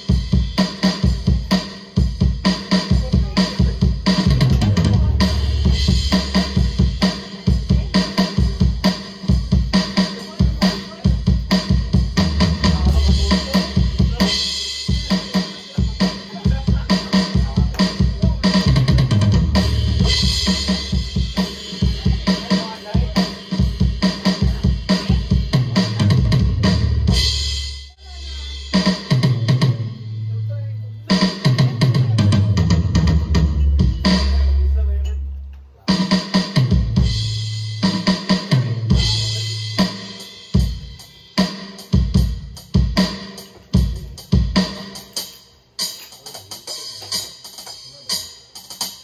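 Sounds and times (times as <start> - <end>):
electronic drum kit beat: 0.0 - 49.0
music track with bass notes: 0.0 - 49.0.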